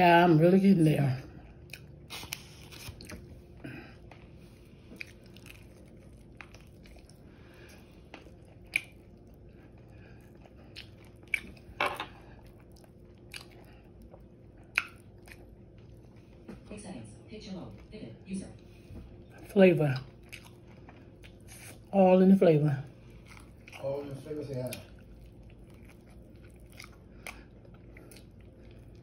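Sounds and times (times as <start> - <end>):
chewing and crunching: 1.2 - 16.5, 18.8 - 21.9, 22.6 - 29.0.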